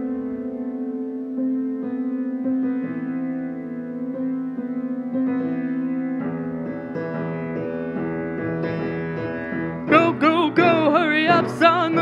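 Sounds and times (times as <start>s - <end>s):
instrumental keyboard music: 0.0s - 12.0s.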